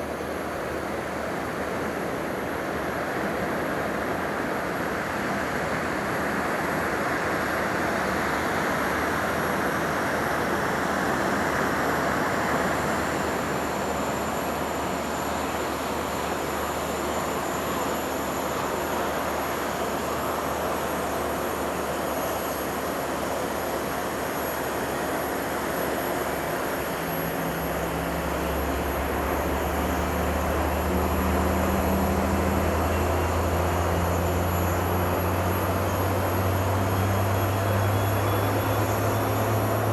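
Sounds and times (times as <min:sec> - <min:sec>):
jet engines running: 0:05.9 - 0:39.9.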